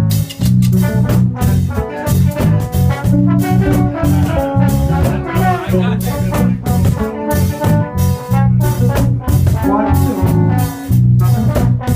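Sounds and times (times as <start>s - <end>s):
live band playing reggae: 0.0s - 11.9s.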